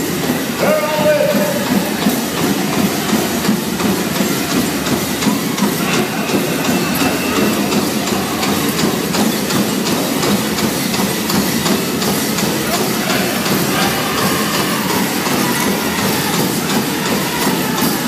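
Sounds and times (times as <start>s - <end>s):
bells and jingles jangling: 0.0s - 18.0s
crowd voices: 0.0s - 18.0s
dancers' feet: 0.0s - 18.0s
faint regular drum beat: 0.0s - 18.0s.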